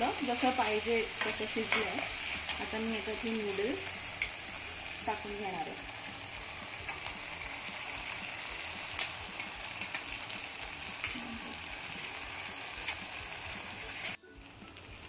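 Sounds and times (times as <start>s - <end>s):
stir-fry sizzling in a pan: 0.0s - 15.0s.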